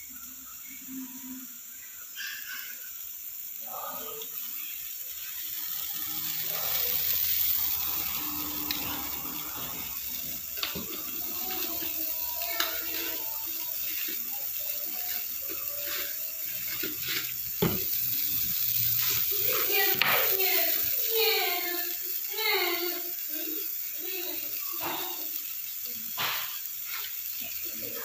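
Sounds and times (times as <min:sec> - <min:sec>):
broth bubbling in a wok: 0:00.0 - 0:28.0.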